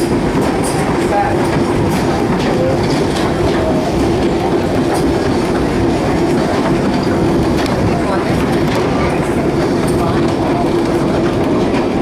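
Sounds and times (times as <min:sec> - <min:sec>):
train rumble and drone: 0:00.0 - 0:12.0
train wheels clacking: 0:00.0 - 0:12.0.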